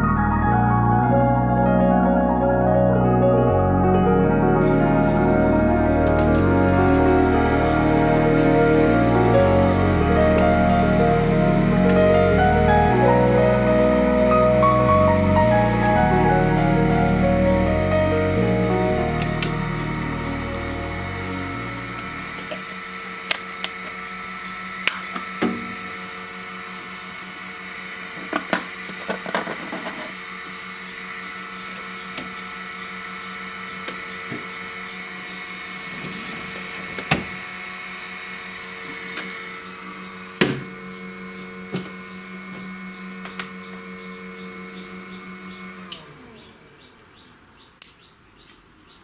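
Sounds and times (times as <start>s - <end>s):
steady machine hum: 0.0s - 49.0s.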